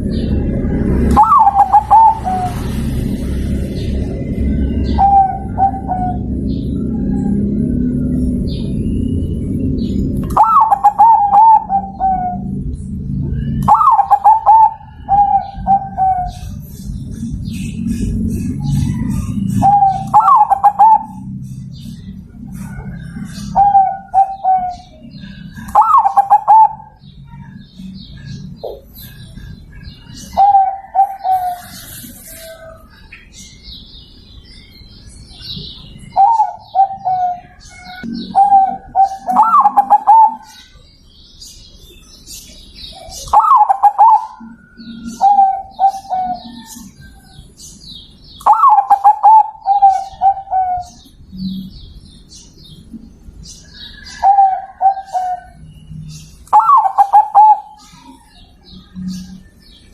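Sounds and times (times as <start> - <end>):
dove cooing: 0.0 - 8.6, 9.6 - 32.9, 35.6 - 40.7, 43.0 - 47.4, 48.4 - 51.8, 53.8 - 59.5.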